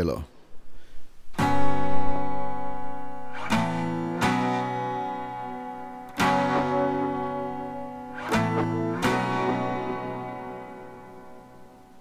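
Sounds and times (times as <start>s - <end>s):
acoustic guitar strumming: 1.4s - 12.0s.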